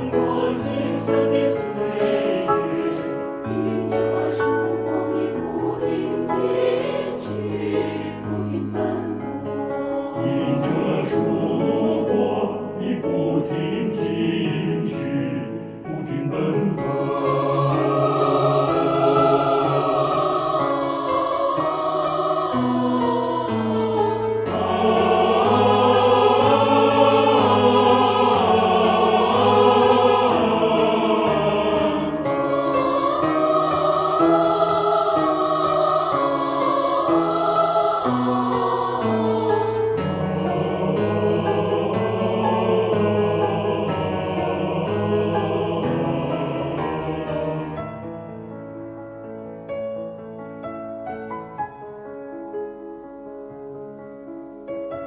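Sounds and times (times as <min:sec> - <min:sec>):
choir singing in harmony: 0:00.0 - 0:52.8
piano accompaniment: 0:00.0 - 0:55.0.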